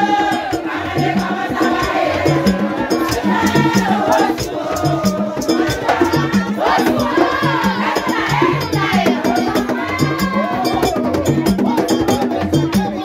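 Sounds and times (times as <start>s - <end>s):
crowd singing: 0.0s - 13.0s
drums beating: 0.0s - 13.0s.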